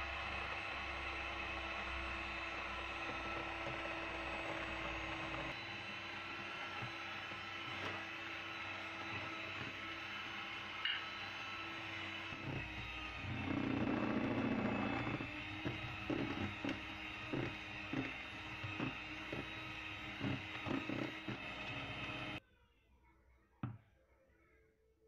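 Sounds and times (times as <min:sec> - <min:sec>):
electric hand mixer running: 0:00.0 - 0:22.4.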